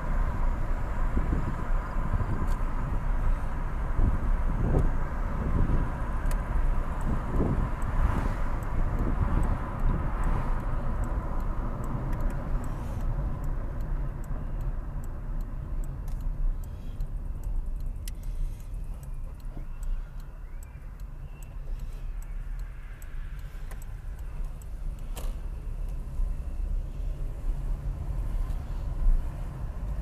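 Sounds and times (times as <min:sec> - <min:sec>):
car engine and tyre rumble: 0:00.0 - 0:30.0
light regular ticking: 0:00.1 - 0:30.0.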